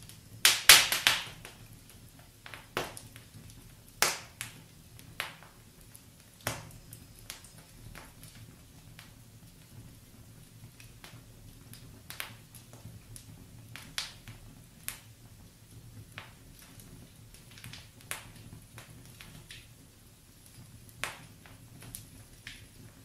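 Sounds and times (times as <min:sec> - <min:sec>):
logs crackling and popping: 0:00.0 - 0:23.0
low rumble of flame: 0:00.0 - 0:23.0.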